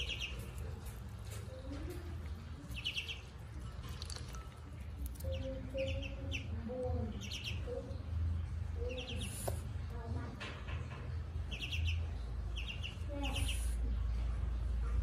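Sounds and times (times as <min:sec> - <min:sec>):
ducklings peeping: 0:00.0 - 0:09.8, 0:11.4 - 0:14.0
low steady hum: 0:00.0 - 0:15.0.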